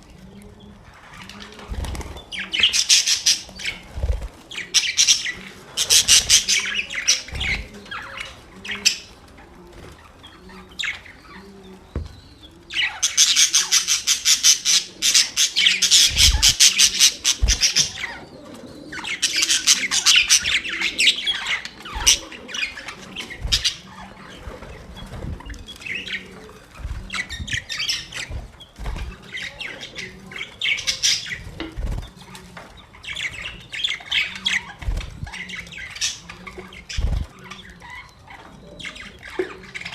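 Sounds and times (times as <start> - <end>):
budgerigars chattering: 1.0 - 9.2, 10.0 - 26.4, 27.1 - 39.9.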